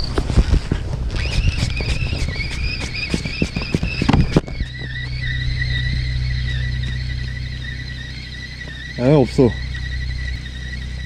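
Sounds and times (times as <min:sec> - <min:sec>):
fishing reel whining and clicking: 0:01.1 - 0:11.0.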